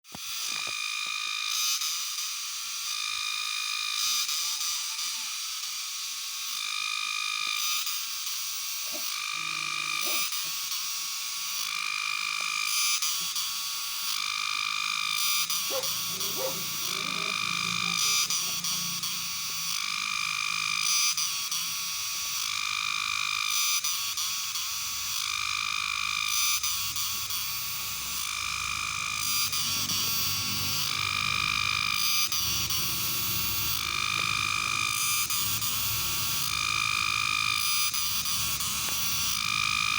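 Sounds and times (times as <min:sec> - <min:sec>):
cicada calling: 0:00.1 - 0:39.9.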